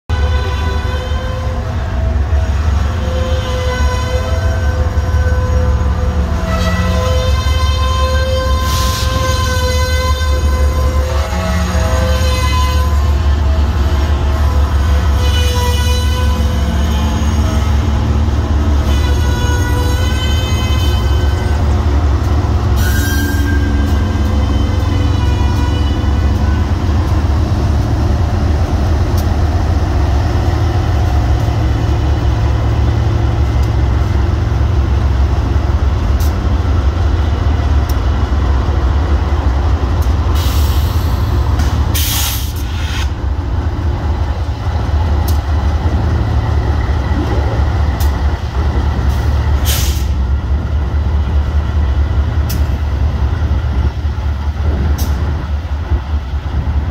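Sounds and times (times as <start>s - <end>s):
diesel locomotive engine rumble: 0.0s - 56.9s.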